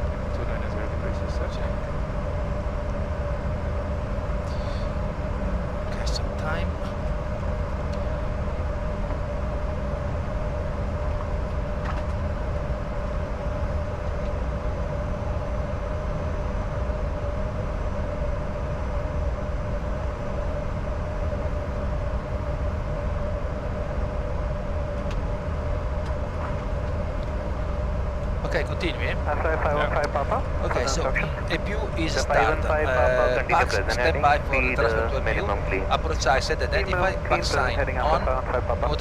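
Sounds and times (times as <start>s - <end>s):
jet cockpit airflow and engine noise: 0.0s - 39.0s
steady hum: 0.0s - 39.0s.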